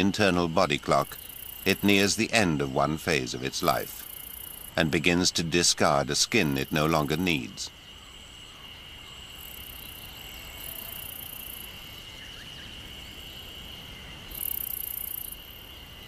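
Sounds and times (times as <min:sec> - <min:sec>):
insects high buzzing calls: 0:00.0 - 0:16.0
insects high-pitched drone: 0:00.0 - 0:16.0.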